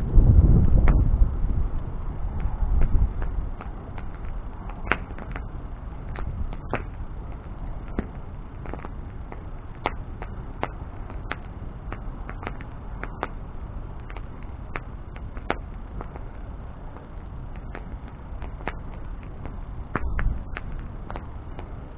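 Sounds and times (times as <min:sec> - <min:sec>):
bonfire crackling and popping: 0:00.0 - 0:21.9
low rumble: 0:00.0 - 0:21.9.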